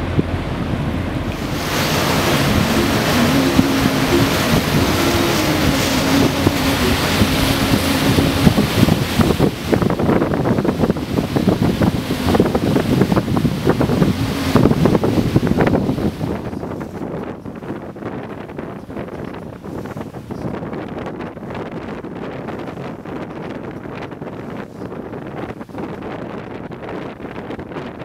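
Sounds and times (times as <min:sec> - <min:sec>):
sea washing around boat: 0:00.0 - 0:28.0
wind buffeting microphone: 0:00.0 - 0:28.0.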